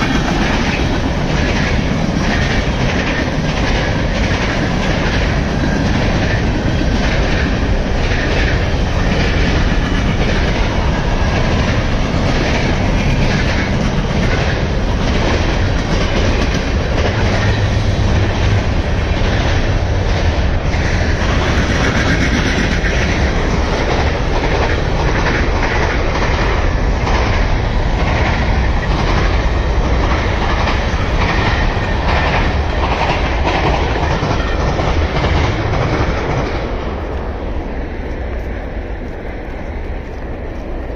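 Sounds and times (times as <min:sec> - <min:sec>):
freight train rumble: 0:00.0 - 0:40.9
train wheels clicking over rail joints: 0:00.0 - 0:40.9.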